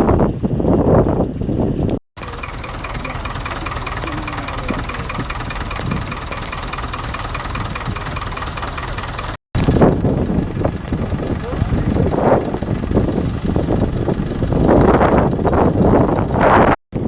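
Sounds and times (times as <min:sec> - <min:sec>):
engine running with fast ticking: 0:02.2 - 0:17.0.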